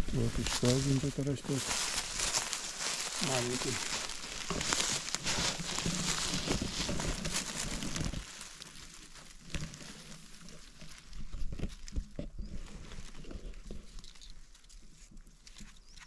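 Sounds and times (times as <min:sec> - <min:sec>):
footsteps on forest floor: 0:00.0 - 0:16.0
twigs cracking: 0:00.0 - 0:16.0
undergrowth rustling: 0:00.0 - 0:16.0.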